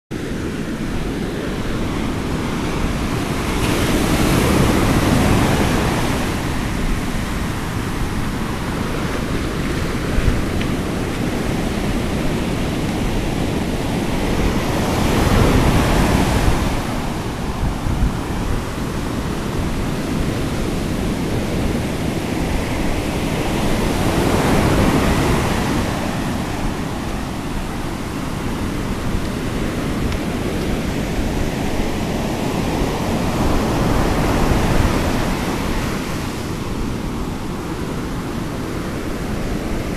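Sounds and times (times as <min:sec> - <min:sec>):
ocean surf breaking on beach: 0:00.1 - 0:39.9
wind rumbling on microphone: 0:00.2 - 0:39.9.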